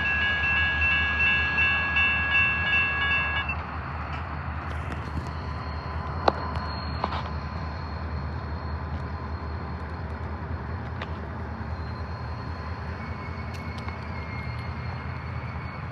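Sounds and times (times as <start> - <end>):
train rumbling on rails: 0.0 - 15.9.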